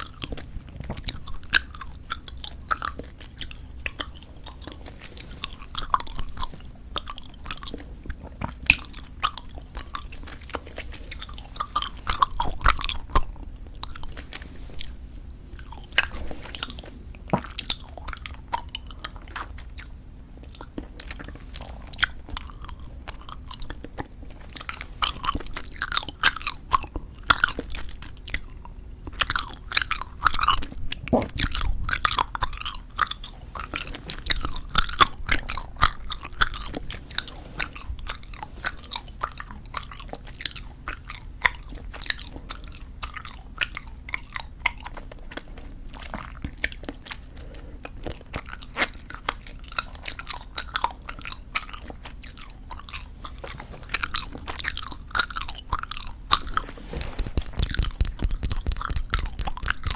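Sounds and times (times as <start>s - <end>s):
chewing bubble gum: 0.0s - 59.9s.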